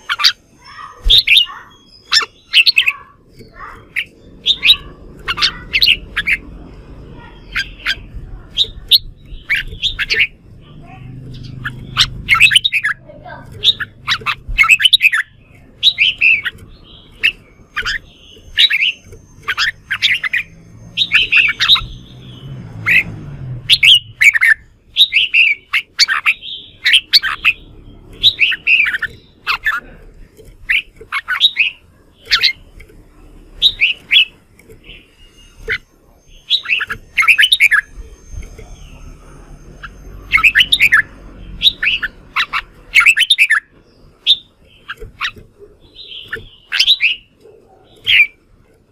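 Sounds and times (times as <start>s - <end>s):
birds singing chattering phrases: 0.0s - 48.9s.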